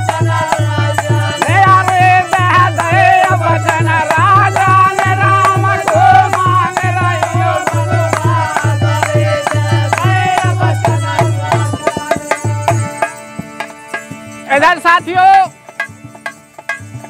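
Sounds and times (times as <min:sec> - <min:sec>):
men singing together: 0:00.0 - 0:14.0
hand drum beating a rhythm: 0:00.0 - 0:14.5, 0:15.5 - 0:17.0.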